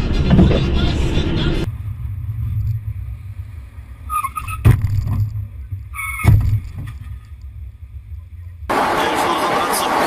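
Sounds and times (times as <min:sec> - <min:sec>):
car interior rumble: 0:00.0 - 0:09.8.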